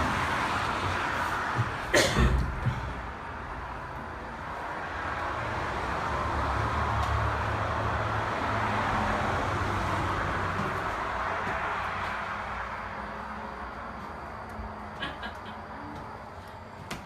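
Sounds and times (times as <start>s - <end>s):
vehicle rumble and road noise: 0.0s - 17.0s.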